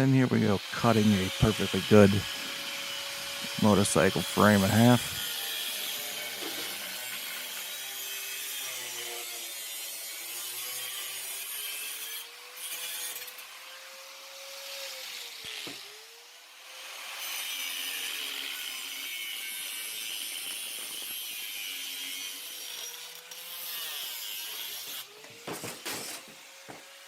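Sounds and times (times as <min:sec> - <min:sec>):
power saw cutting steel tubing: 0:00.0 - 0:27.0.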